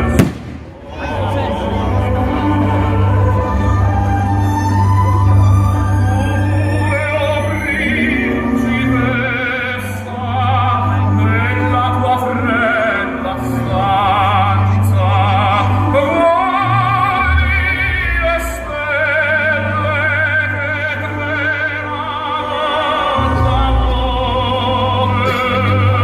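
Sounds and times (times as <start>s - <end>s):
operatic singing with vibrato: 0.0s - 26.0s.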